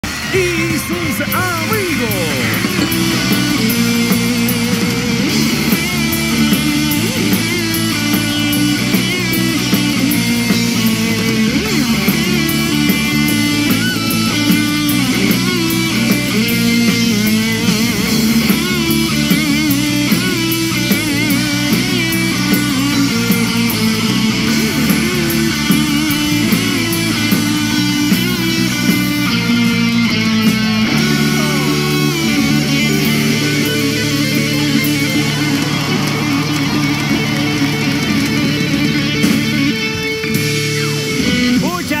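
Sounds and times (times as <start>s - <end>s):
drum beat: 0.0s - 40.9s
rock music with guitar: 0.0s - 42.0s.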